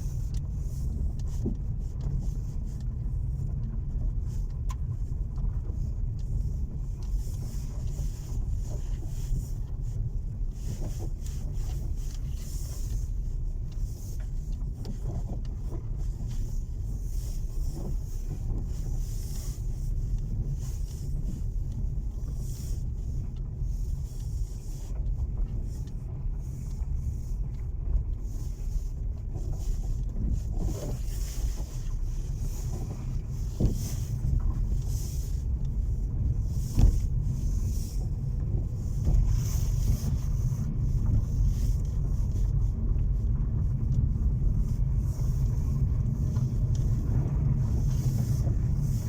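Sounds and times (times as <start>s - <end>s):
road and tyre noise: 0.0s - 49.0s.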